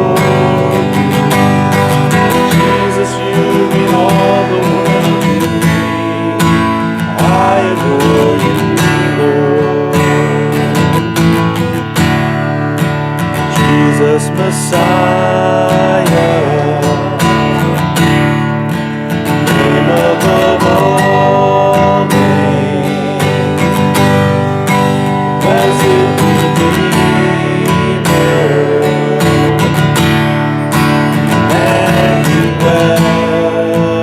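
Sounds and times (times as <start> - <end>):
acoustic guitar strumming: 0.0 - 34.0
sustained instruments: 0.0 - 34.0.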